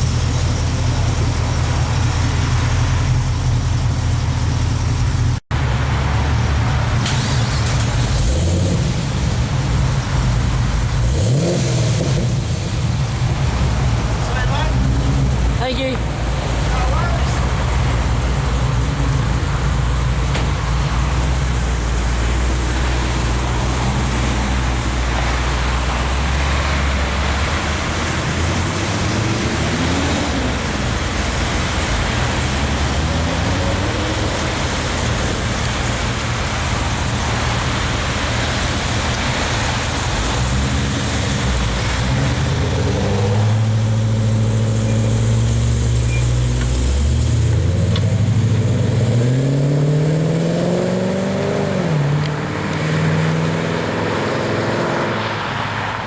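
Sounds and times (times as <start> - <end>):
car engines running: 0.0 - 56.0
road traffic noise: 0.0 - 56.0.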